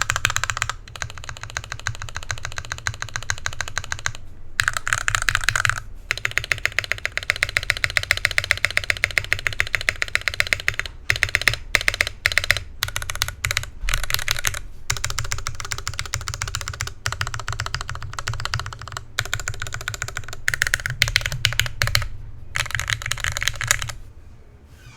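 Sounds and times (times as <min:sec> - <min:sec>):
typing on mechanical keyboard: 0:00.0 - 0:24.0.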